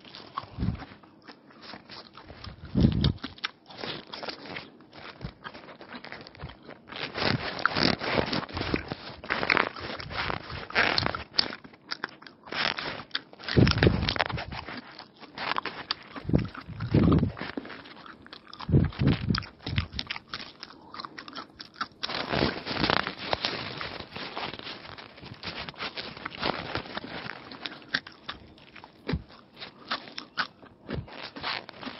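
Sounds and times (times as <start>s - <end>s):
crunchy biting and chewing: 0.0s - 31.9s
paper wrapper crinkling: 3.8s - 11.8s, 12.4s - 31.9s.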